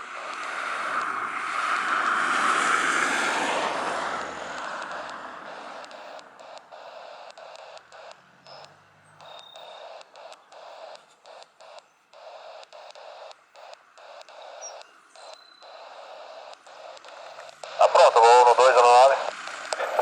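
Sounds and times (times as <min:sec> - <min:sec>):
aircraft noise: 0:00.0 - 0:20.0
radio static hiss: 0:00.0 - 0:20.0.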